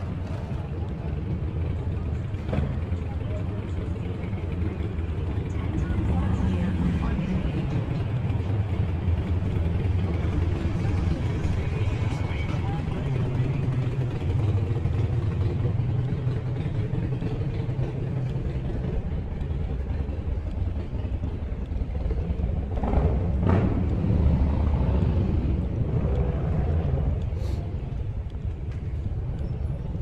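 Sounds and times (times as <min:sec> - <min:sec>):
low rumble of traffic: 0:00.0 - 0:30.0.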